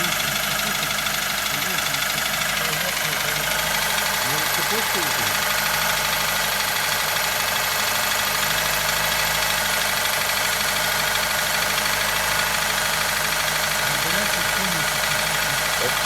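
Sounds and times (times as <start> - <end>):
car engine idling with knock: 0.0 - 16.0.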